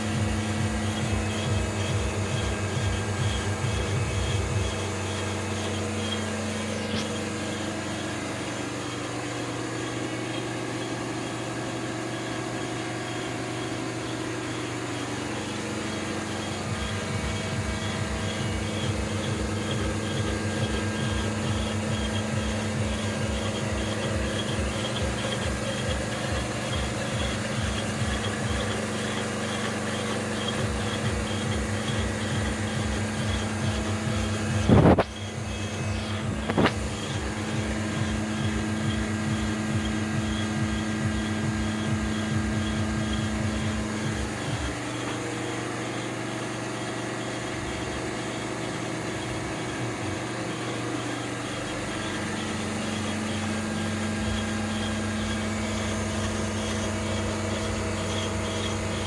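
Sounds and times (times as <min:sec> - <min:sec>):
milling spindle running: 0:00.0 - 0:59.0
rapid low pulsing: 0:00.0 - 0:59.0.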